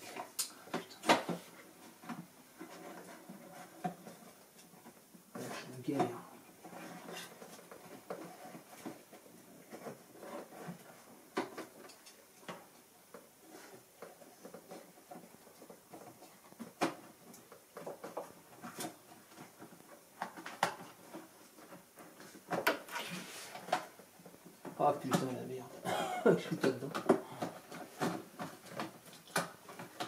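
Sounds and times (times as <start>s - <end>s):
rubbing of parts: 0.0s - 25.8s.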